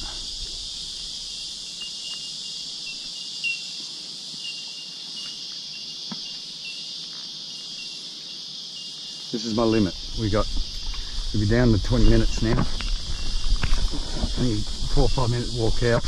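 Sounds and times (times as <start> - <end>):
cicadas chorus: 0.0 - 16.0.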